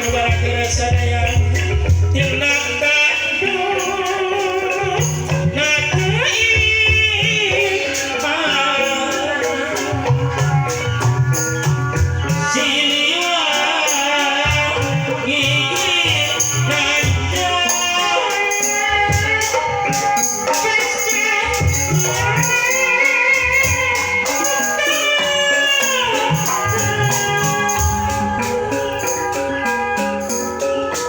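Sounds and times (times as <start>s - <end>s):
drums: 0.0s - 31.0s
sliding melody line: 4.2s - 31.0s.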